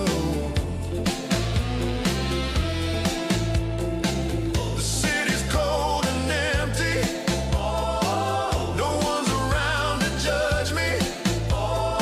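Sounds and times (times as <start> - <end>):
pop song with beat and bass: 0.0 - 12.0.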